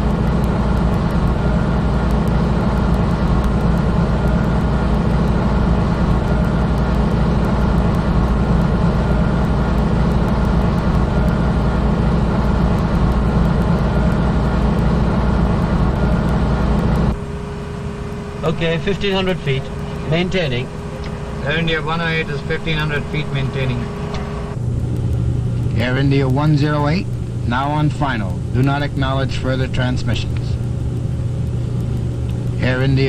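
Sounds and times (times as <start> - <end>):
jet airliner engine rumble: 0.0 - 33.0.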